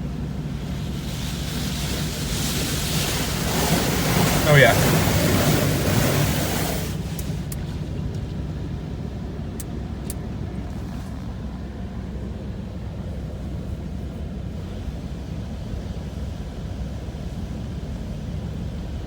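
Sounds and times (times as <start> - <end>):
steady low hum: 0.0 - 19.0
water spraying against truck: 0.0 - 19.0.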